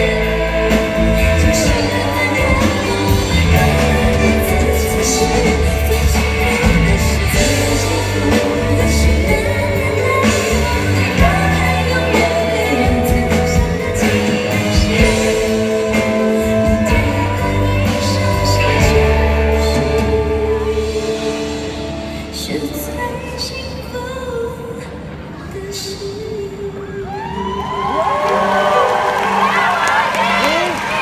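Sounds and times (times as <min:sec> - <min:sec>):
full band playing: 0:00.0 - 0:24.0, 0:27.0 - 0:31.0
woman singing into a microphone: 0:00.0 - 0:28.5.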